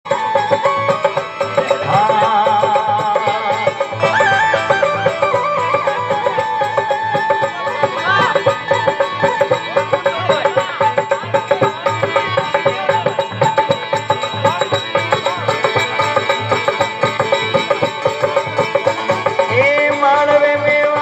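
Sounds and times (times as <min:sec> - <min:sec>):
hand drum beat: 0:00.1 - 0:21.0
instrumental folk melody: 0:00.1 - 0:21.0.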